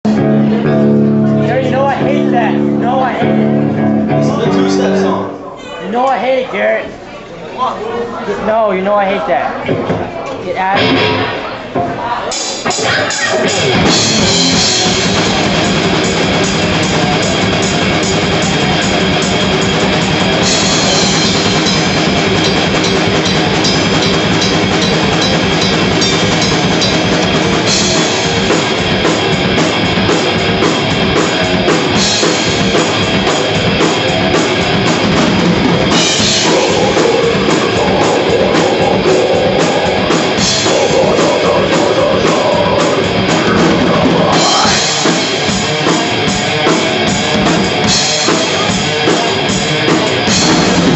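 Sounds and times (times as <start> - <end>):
death metal band playing: 0.0 - 5.6, 10.6 - 50.9.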